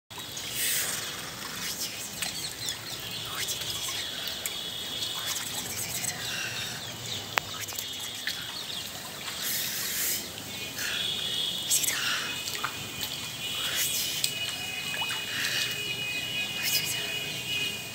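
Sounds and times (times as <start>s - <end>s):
birds chirping: 0.1s - 17.8s
water dripping on concrete: 0.1s - 17.9s.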